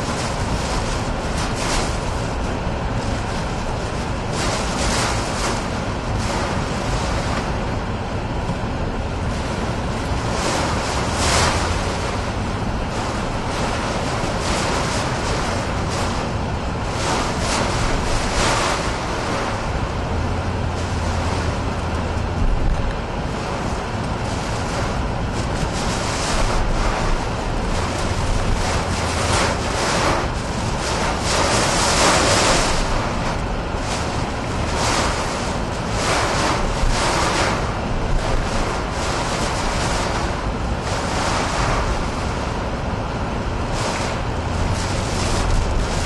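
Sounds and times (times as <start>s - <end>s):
strong wind and rain on car: 0.0s - 46.0s.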